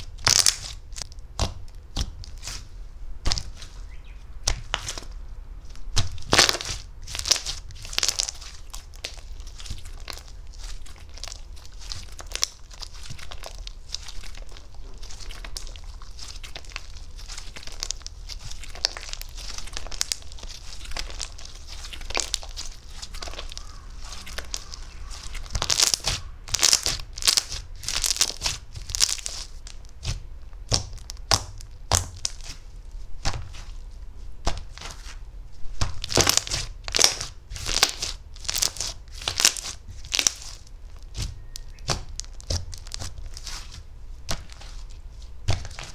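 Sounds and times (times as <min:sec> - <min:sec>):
slime crackling and popping: 0:00.0 - 0:03.8, 0:04.4 - 0:32.6, 0:35.7 - 0:45.9
low steady hum: 0:00.0 - 0:45.9.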